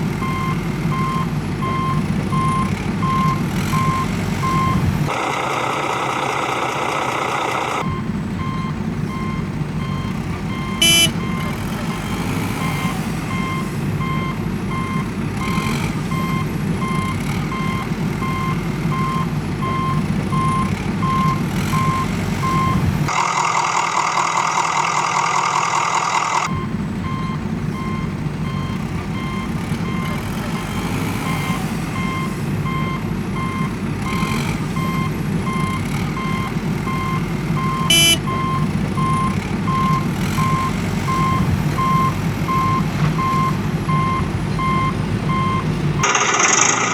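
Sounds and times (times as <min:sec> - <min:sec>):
diesel engine rumble: 0:00.0 - 0:46.9
reversing alarm beeping: 0:00.2 - 0:04.9, 0:07.7 - 0:22.9, 0:26.4 - 0:46.9.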